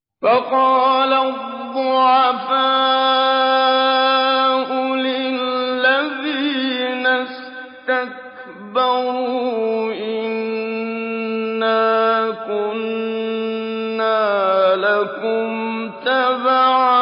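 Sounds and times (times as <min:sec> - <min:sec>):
man chanting melodically: 0:00.2 - 0:17.0.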